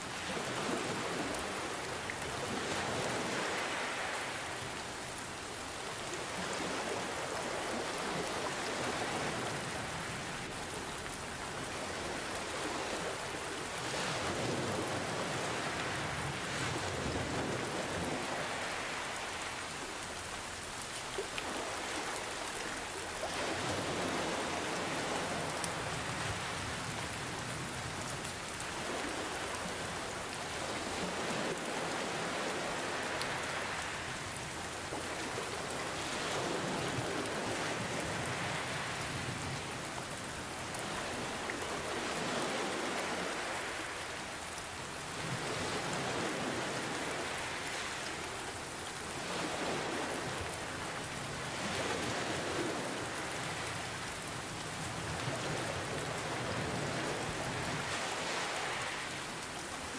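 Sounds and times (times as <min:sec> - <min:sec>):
ocean waves washing in: 0:00.0 - 0:59.9
rain hiss: 0:00.0 - 0:59.9.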